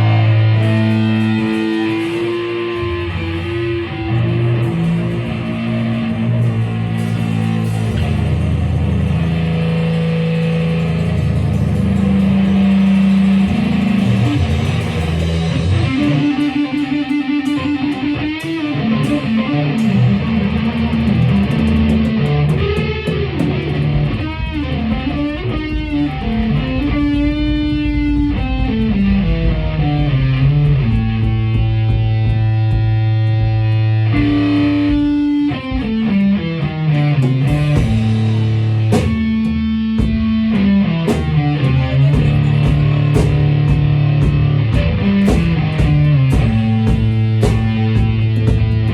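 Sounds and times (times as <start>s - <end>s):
guitar music with bass: 0.0s - 48.9s.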